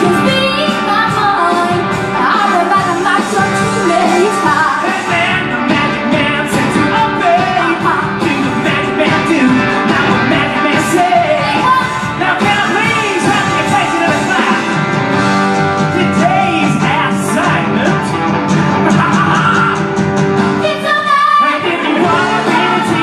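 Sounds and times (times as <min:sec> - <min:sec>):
lead vocals singing: 0:00.0 - 0:23.0
rock band playing: 0:00.0 - 0:23.0.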